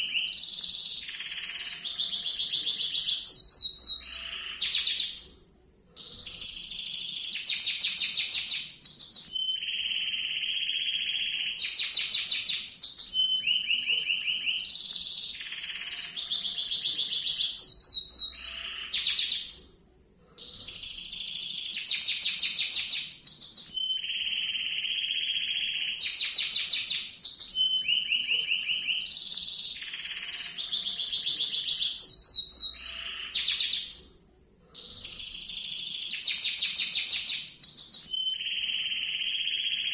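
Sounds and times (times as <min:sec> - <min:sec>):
canary singing trills: 0:00.0 - 0:05.2, 0:06.0 - 0:19.6, 0:20.4 - 0:34.0, 0:34.8 - 0:39.9.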